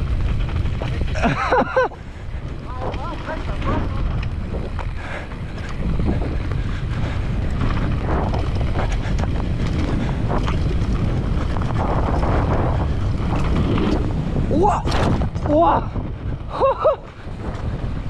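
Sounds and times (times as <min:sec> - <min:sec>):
bike rattles and knocks: 0:00.0 - 0:18.0
tyres rumbling on dirt: 0:00.0 - 0:18.0
wind buffeting microphone: 0:00.0 - 0:18.0.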